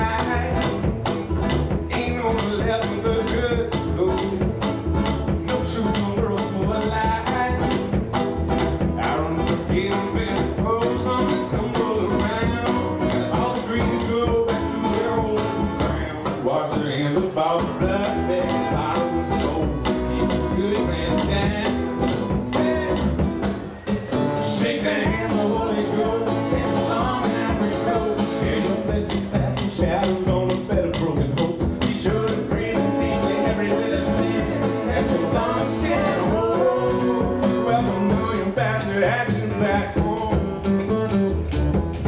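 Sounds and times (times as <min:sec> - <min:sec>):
bass drum beat: 0:00.0 - 0:42.0
strummed acoustic guitar: 0:00.0 - 0:42.0
upright bass: 0:00.0 - 0:42.0.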